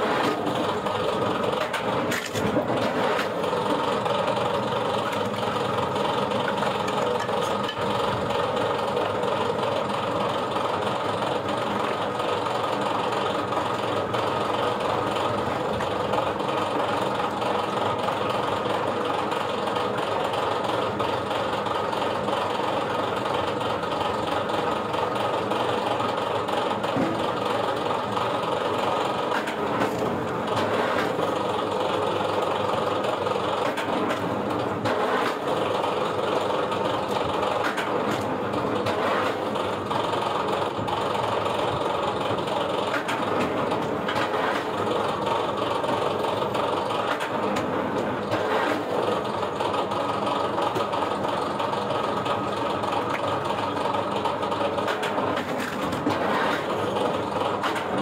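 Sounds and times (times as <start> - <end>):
firewood splitter droning: 0.0 - 58.0.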